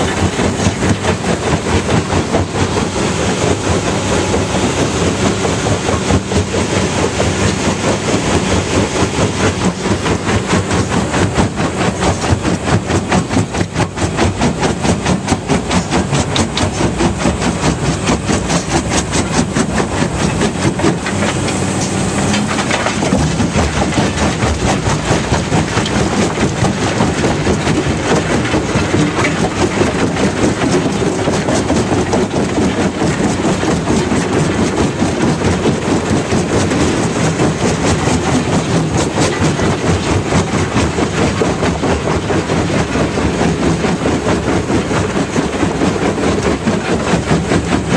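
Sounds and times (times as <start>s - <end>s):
jaw crusher machine drone: 0.0s - 47.9s
rock knocking and rattling in crusher: 0.0s - 47.9s.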